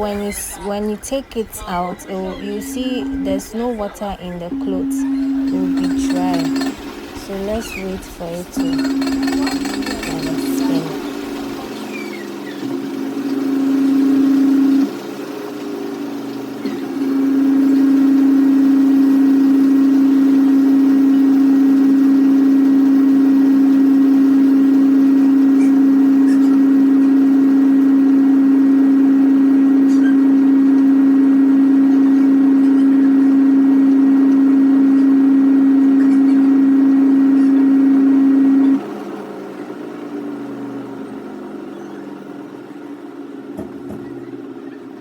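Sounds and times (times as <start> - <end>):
washing machine motor humming: 0.0 - 45.0.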